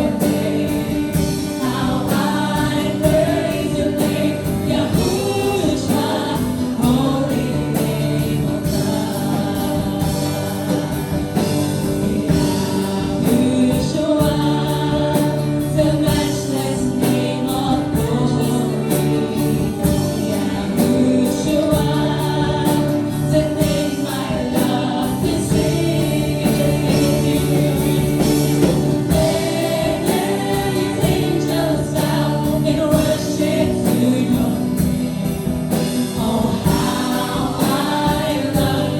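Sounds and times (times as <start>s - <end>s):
group singing worship song: 0.0s - 38.9s.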